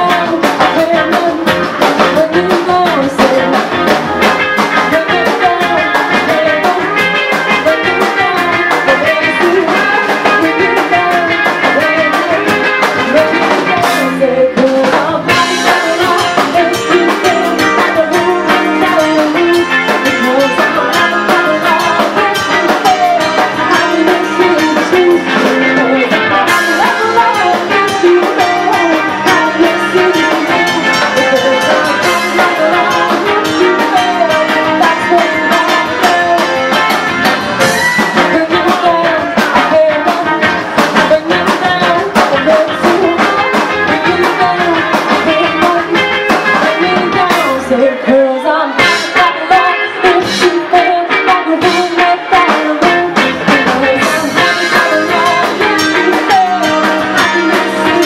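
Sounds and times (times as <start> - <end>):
bass guitar: 0.0 - 58.0
drum kit: 0.0 - 58.0
electric guitar: 0.0 - 58.0
woman singing: 0.0 - 58.0.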